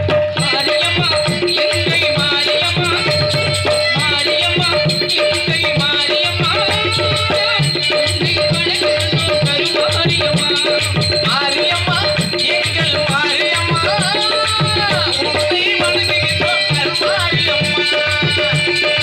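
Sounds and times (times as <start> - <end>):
hand drum beating fast rhythm: 0.0 - 19.0.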